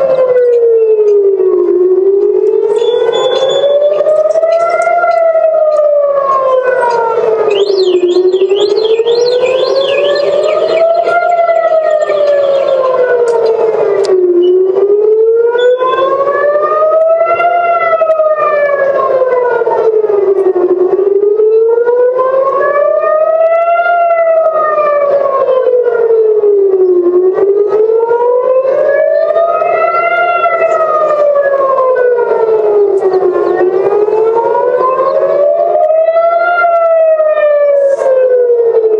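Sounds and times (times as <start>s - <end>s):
air-raid siren wailing: 0.0s - 38.9s
fast warbling siren: 0.0s - 38.9s.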